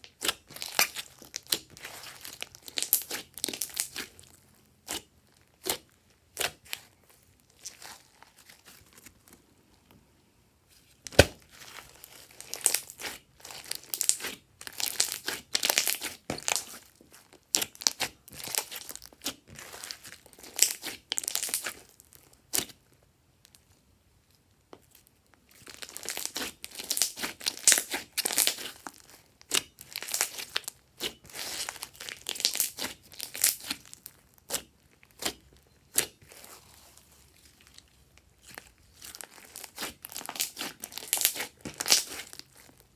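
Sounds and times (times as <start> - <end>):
slime squishing and crackling: 0.0 - 9.4, 10.9 - 22.8, 24.8 - 42.9.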